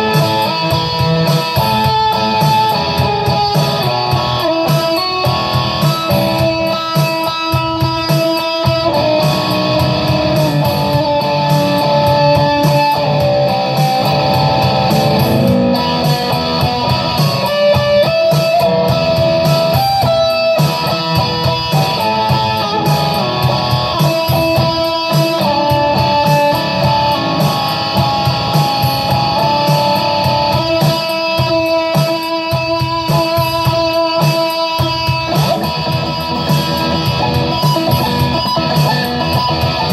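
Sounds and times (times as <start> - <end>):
electric guitar lead: 0.0 - 39.9.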